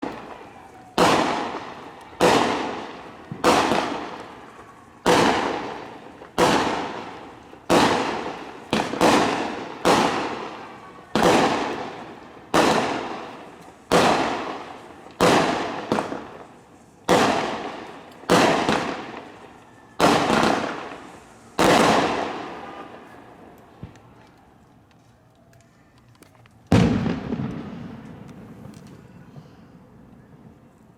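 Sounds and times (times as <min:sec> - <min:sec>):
fireworks bangs echoing: 0:00.0 - 0:24.3, 0:26.7 - 0:30.8.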